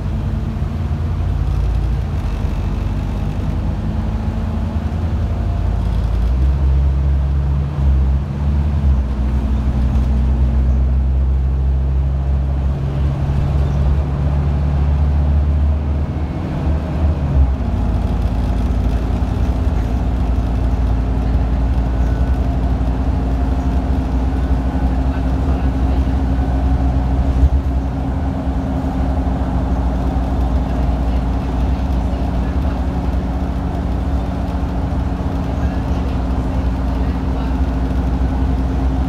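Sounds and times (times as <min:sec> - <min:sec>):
bus engine running: 0:00.0 - 0:39.0
road noise: 0:00.0 - 0:39.0.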